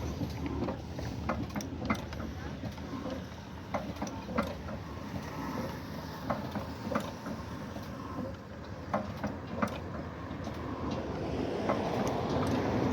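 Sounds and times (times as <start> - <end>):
diesel engine rumbling with knocks: 0.0 - 12.9.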